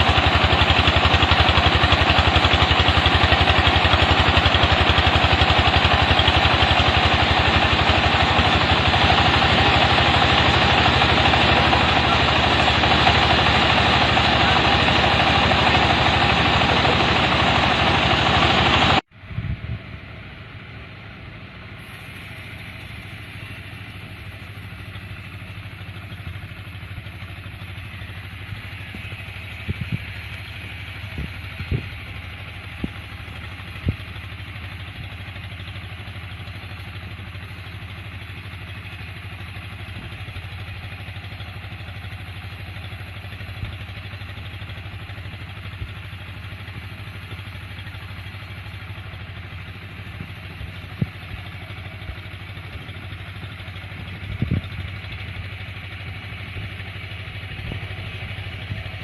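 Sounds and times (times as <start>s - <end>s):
sawmill cutting a log: 0.0s - 19.0s, 20.5s - 59.0s
sawmill engine running: 0.0s - 59.0s.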